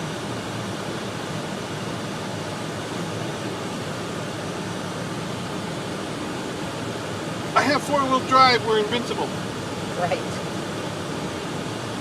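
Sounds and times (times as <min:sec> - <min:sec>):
road noise: 0:00.0 - 0:12.0
vehicle engine: 0:00.0 - 0:12.0.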